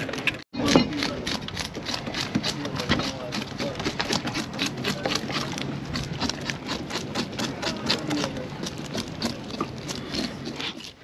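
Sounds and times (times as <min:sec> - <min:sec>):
fish scales being scraped: 0:00.9 - 0:11.0.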